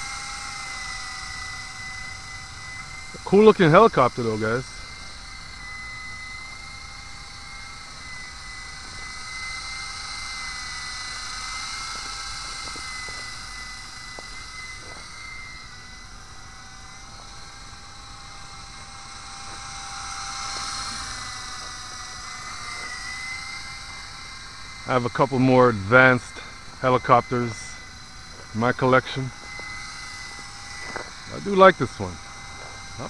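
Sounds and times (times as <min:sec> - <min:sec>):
toy helicopter motor whine: 0:00.0 - 0:33.0.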